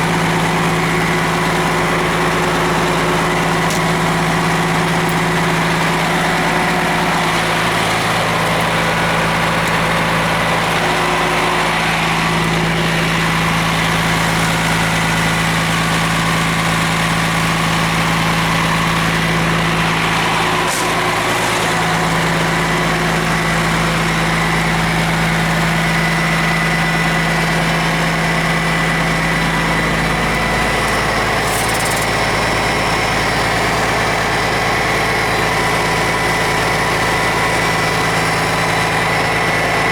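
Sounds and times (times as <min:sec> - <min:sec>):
diesel bus engine idling: 0:00.0 - 0:39.9.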